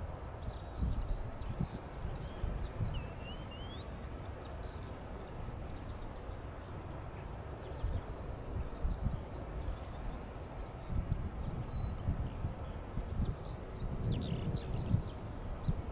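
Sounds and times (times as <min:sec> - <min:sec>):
wind on microphone: 0:00.0 - 0:04.0, 0:07.2 - 0:15.9
small birds chirping: 0:00.3 - 0:15.9.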